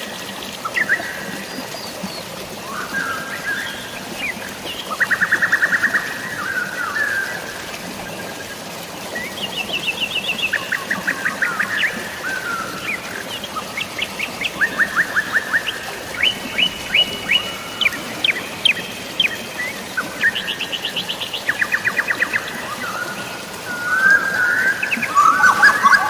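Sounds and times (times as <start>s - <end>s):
falling rain: 0.0s - 26.0s
flowing water: 0.0s - 26.0s
songbirds chirping: 0.0s - 26.0s.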